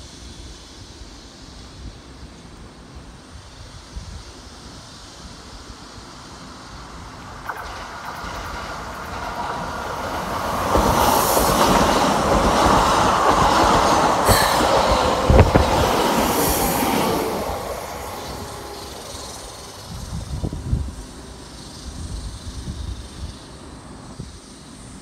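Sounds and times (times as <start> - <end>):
electric train passing: 0.0 - 25.0.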